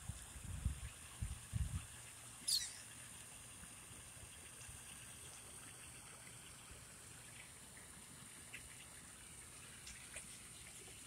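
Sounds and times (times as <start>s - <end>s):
ducks pecking and dabbling: 0.0s - 11.0s.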